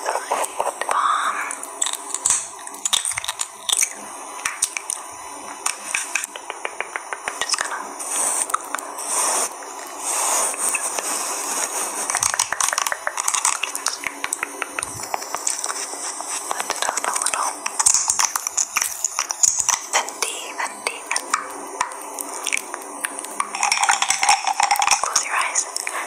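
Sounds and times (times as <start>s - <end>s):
crisp clicks and taps: 0.0s - 7.8s, 12.1s - 26.0s.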